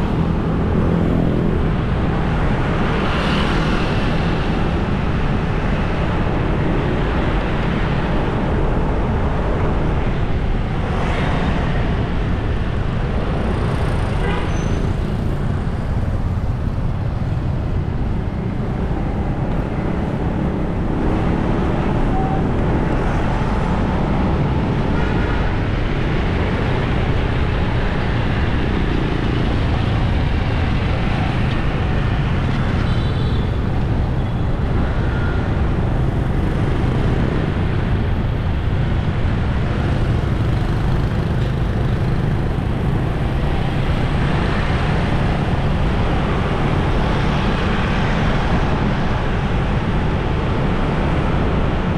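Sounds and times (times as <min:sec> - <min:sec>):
street traffic: 0:00.0 - 0:51.9.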